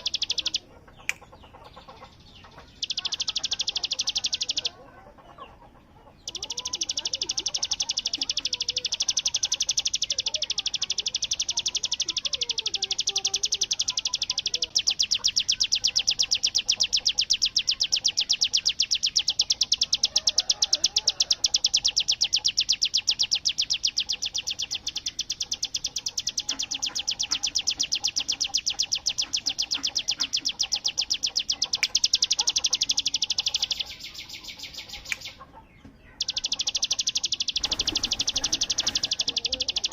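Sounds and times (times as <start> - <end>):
bird rattling trill: 0.0 - 0.7, 2.5 - 4.8, 6.2 - 35.4, 36.1 - 39.9.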